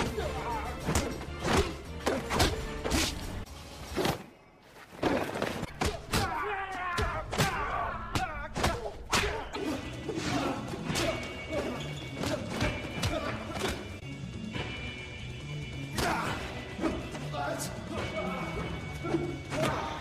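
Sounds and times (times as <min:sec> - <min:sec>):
film score music: 0:00.0 - 0:20.0.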